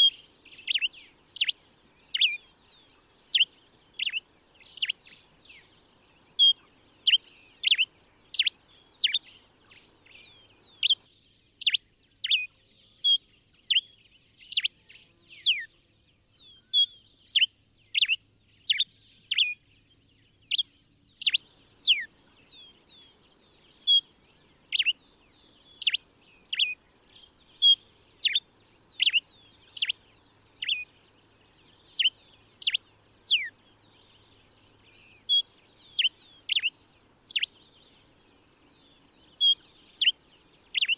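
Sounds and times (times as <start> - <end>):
finch singing whistled notes: 0.0 - 40.9.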